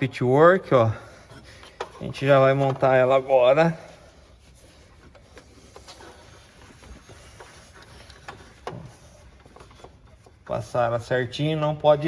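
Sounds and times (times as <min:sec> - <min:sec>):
faint clicks and rustles of parts: 0:00.7 - 0:12.0.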